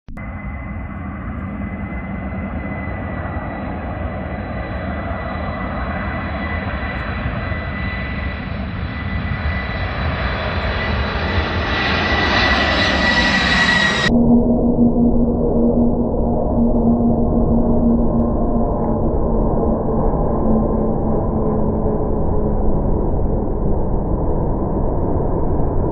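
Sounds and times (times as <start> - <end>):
jet engines roaring with high whine: 0.1 - 25.9.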